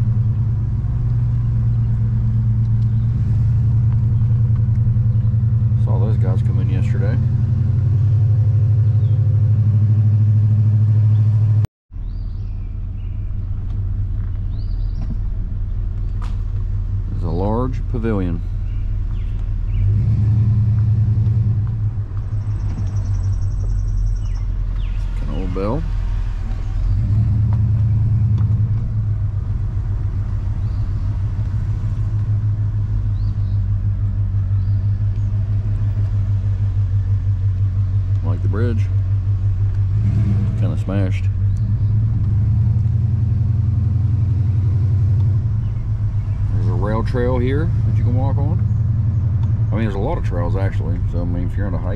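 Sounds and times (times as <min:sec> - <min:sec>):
engine and road rumble inside car: 0:00.0 - 0:51.9.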